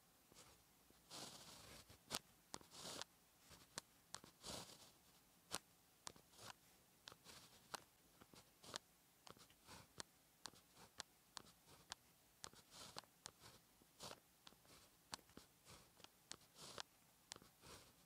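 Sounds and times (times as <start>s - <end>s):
pen scratching on paper: 0.4s - 18.0s.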